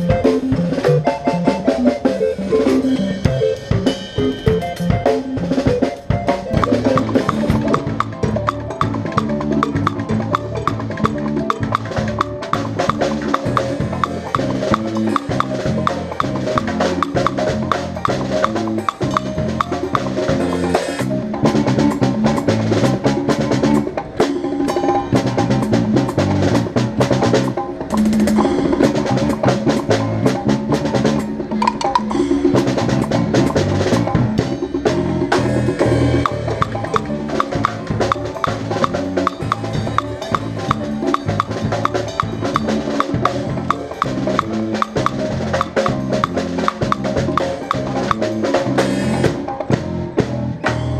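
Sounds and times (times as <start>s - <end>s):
low bass line: 0.0s - 24.0s, 25.1s - 50.9s
busy drum percussion: 0.0s - 50.9s.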